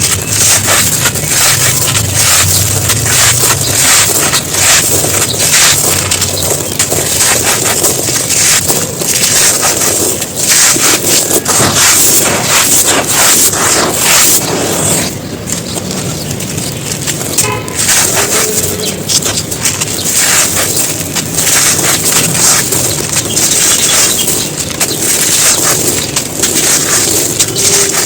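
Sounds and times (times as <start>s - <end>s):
dry mud crumbling and crunching: 0.0s - 28.0s.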